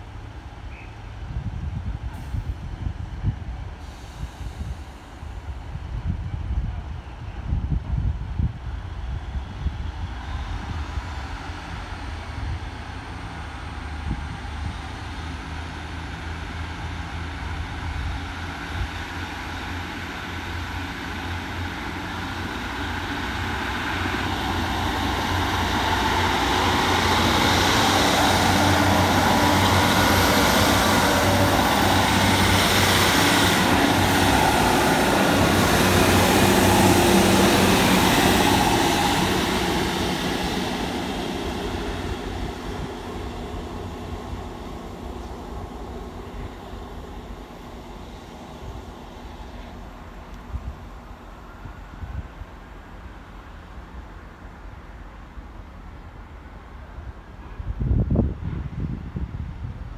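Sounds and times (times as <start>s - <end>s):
train rumbling through station: 0.0s - 59.9s.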